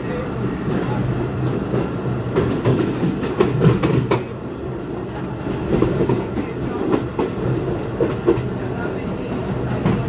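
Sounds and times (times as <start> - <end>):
train coach rumbling: 0.0 - 10.0.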